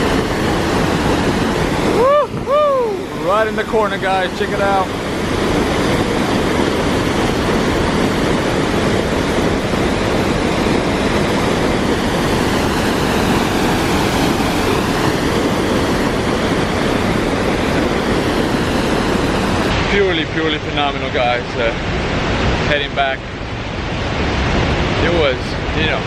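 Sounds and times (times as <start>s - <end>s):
loud waterfall roar: 0.0s - 26.0s.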